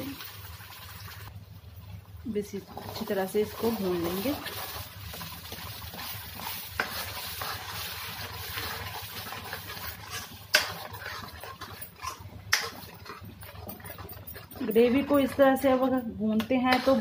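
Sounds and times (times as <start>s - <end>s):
paste sizzling in hot oil: 2.4s - 17.0s.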